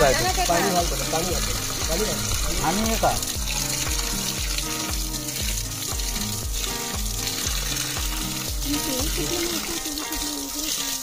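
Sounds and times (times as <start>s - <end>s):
music with bass beat: 0.0s - 9.8s
water pouring and splashing: 0.0s - 11.0s.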